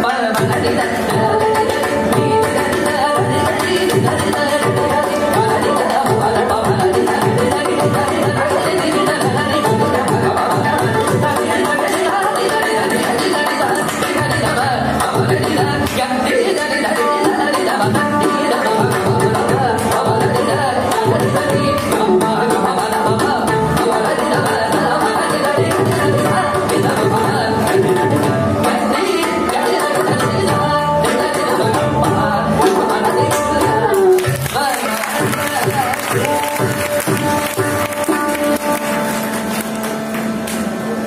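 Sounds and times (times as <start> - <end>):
violin: 0.0 - 41.0.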